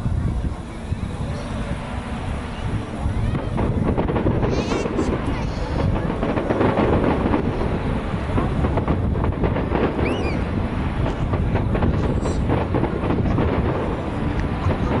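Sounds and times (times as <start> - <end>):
fireworks crackling: 0.0 - 15.0
fireworks booming: 1.6 - 15.0.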